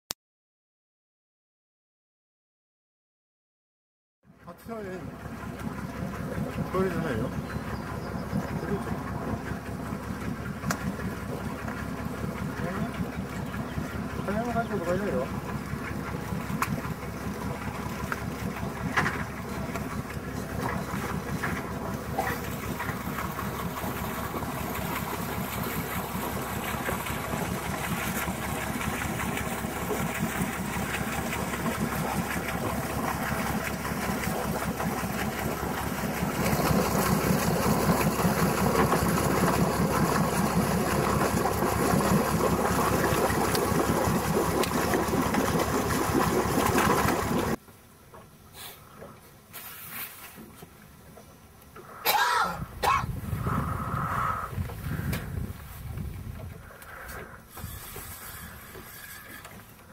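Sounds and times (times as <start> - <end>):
boat engine idling: 4.3 - 47.6, 50.8 - 59.9.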